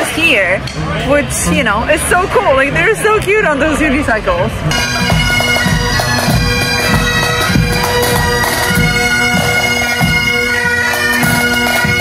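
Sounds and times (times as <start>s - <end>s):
bagpipes playing a tune: 0.0s - 12.0s.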